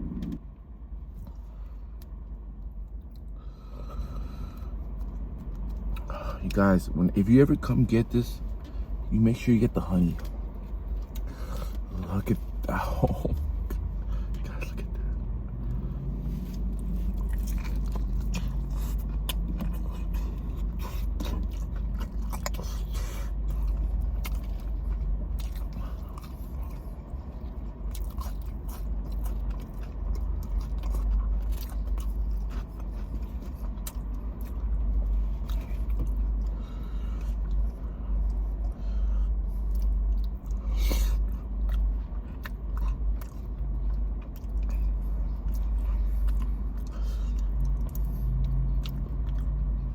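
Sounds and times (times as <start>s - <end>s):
steady low rumble: 0.0s - 49.9s
biting and chewing crunchy food: 1.2s - 49.9s.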